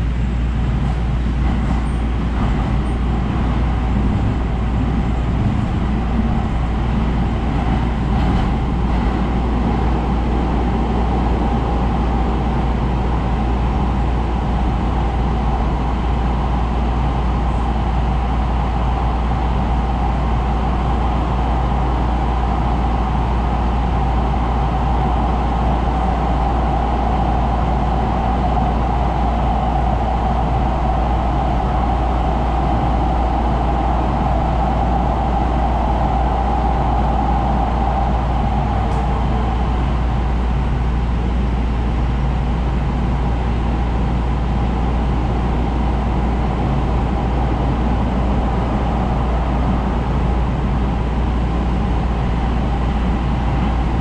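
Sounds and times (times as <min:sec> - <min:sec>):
metro car low rumble: 0:00.0 - 0:54.0.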